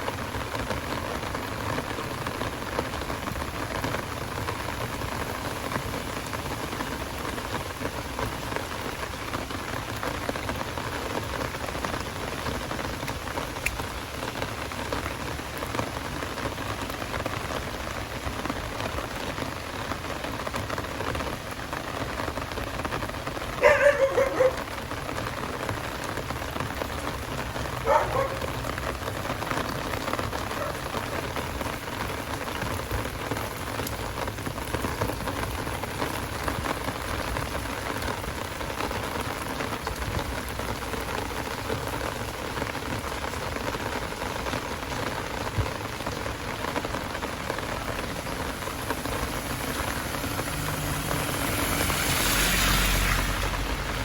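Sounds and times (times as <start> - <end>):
heavy rain: 0.0 - 54.0
vehicle passing on wet road: 0.0 - 54.0.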